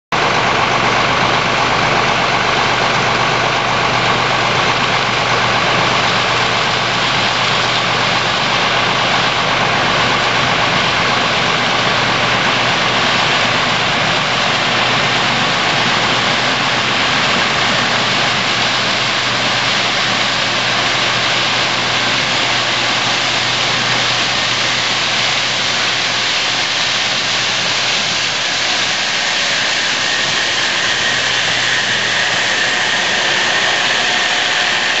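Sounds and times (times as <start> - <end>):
combine harvester engine hum: 0.1 - 35.0
threshing machine rush: 0.2 - 35.0.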